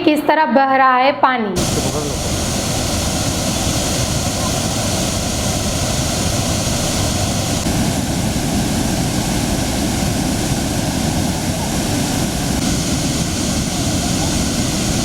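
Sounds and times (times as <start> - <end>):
water rushing: 1.6 - 15.0.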